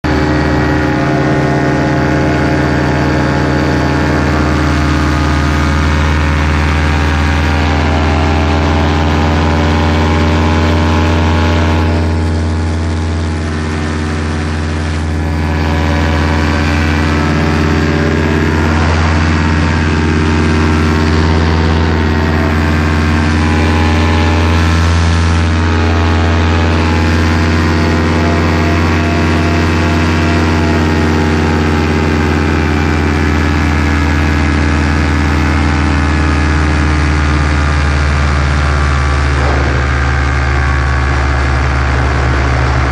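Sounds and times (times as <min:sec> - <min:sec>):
paramotor engine and propeller: 0:00.0 - 0:42.9.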